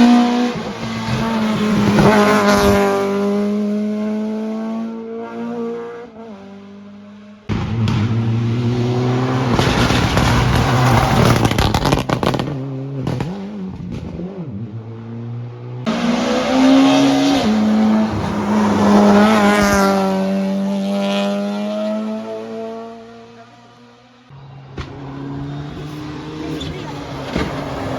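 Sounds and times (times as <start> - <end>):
rally car engines revving: 0.0 - 27.9.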